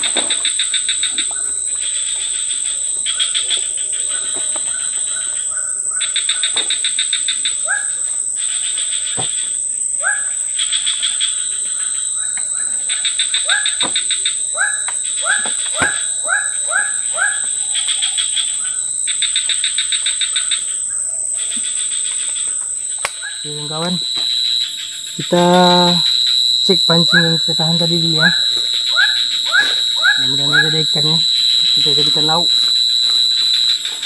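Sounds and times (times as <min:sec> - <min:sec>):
insects droning: 0:00.0 - 0:34.0
rapid pulsed chirping: 0:00.0 - 0:34.0.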